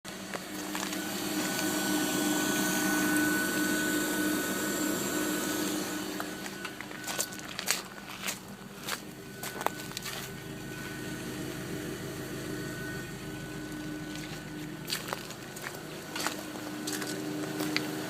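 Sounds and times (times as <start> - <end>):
car engine idling: 0.1 - 18.0
fuel pump whirring: 0.1 - 18.0.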